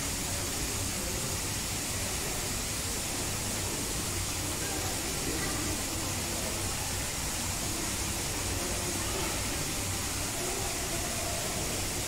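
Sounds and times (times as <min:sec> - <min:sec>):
faint murmur of voices: 0:00.0 - 0:12.0
ventilation hiss: 0:00.0 - 0:12.0.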